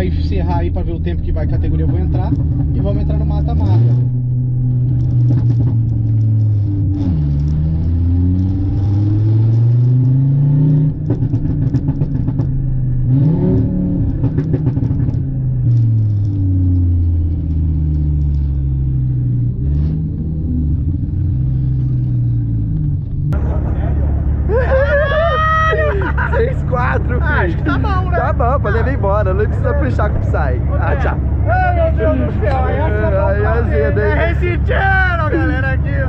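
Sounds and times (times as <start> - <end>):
sports car engine revving: 1.7 - 36.0.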